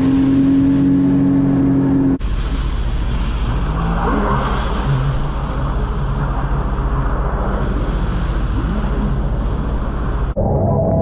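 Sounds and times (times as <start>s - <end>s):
rushing water noise: 0.0s - 10.4s
jet ski engine hum: 0.0s - 11.0s.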